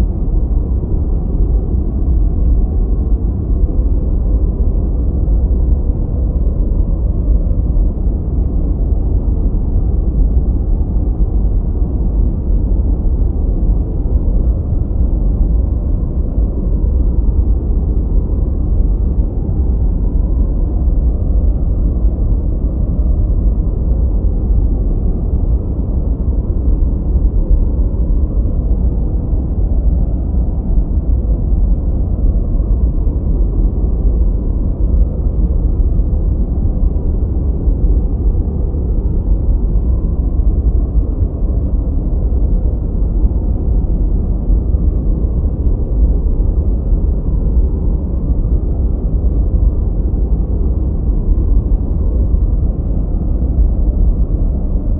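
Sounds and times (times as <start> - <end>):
deep rumbling brown noise: 0.0 - 54.9.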